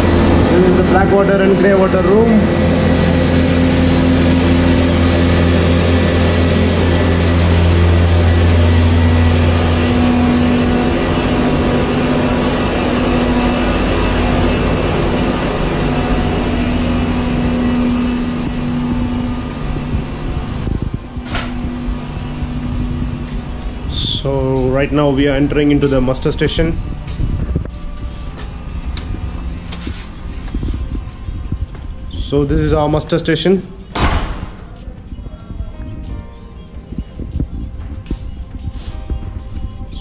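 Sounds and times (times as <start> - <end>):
machinery hum and hiss: 0.0 - 40.0.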